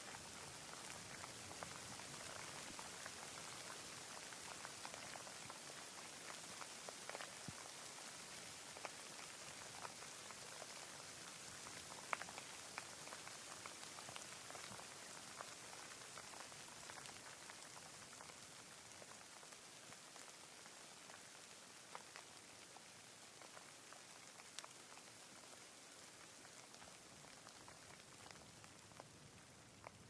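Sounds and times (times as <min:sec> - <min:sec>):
light rain hiss: 0:00.0 - 0:30.0
raindrops ticking: 0:00.0 - 0:30.0.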